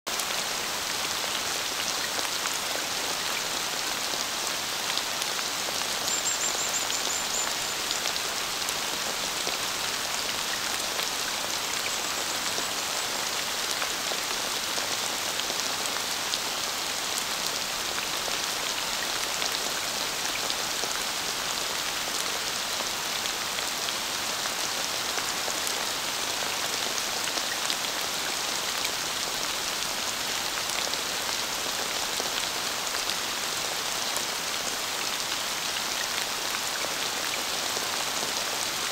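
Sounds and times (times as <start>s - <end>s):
steady rain patter: 0.1s - 38.9s.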